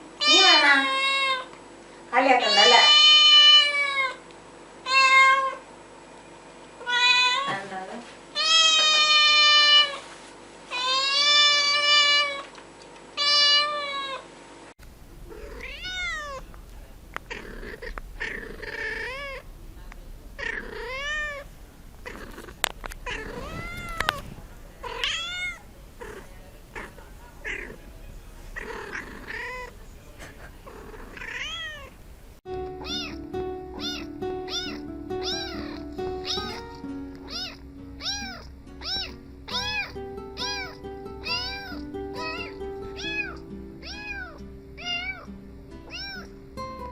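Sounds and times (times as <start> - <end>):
cats meowing: 2.4 - 4.2, 4.9 - 5.6, 6.8 - 7.6, 8.4 - 10.0, 10.7 - 12.5, 13.2 - 14.2, 15.1 - 46.4.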